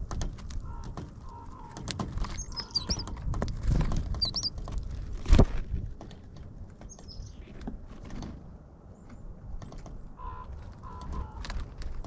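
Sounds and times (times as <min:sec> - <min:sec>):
songbirds chirping: 0:00.0 - 0:04.9, 0:06.0 - 0:12.0
birds pecking seed: 0:00.0 - 0:12.0.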